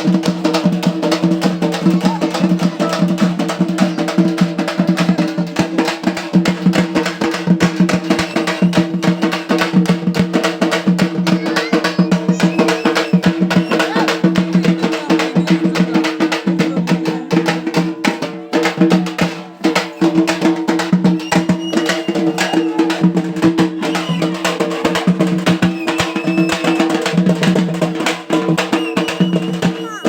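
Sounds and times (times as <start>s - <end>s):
music with fast dense drumbeats: 0.0s - 30.0s.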